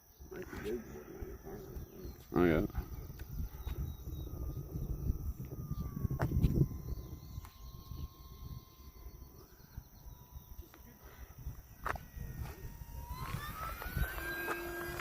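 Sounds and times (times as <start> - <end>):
model plane motor whine: 0.2 - 15.0
wind on microphone: 0.2 - 15.0.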